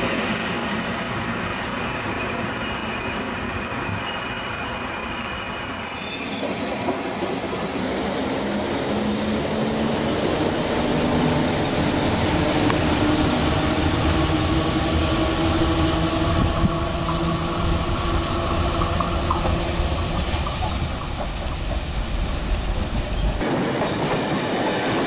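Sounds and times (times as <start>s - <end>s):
steady train whine: 0.0s - 25.0s
train rolling over rails: 0.0s - 25.0s.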